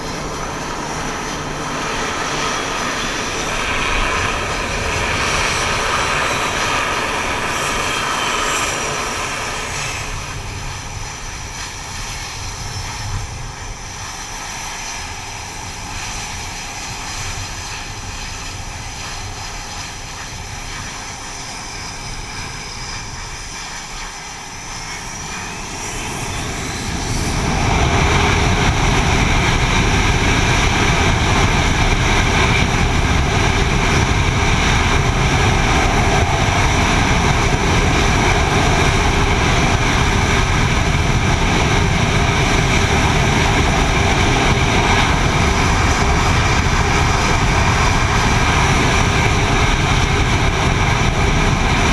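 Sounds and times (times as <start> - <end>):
jet engines running: 0.0 - 51.9
rising jet engine whine: 0.0 - 51.9.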